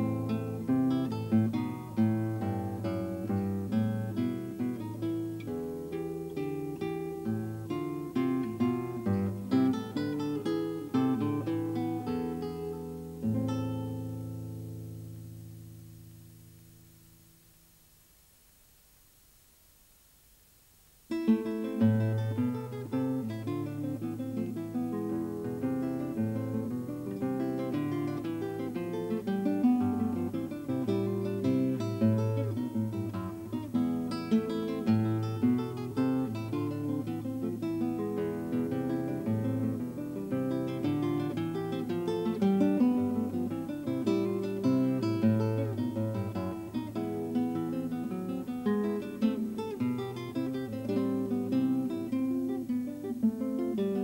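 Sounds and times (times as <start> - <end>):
acoustic guitar plucked notes: 0.0 - 16.6, 21.1 - 54.0.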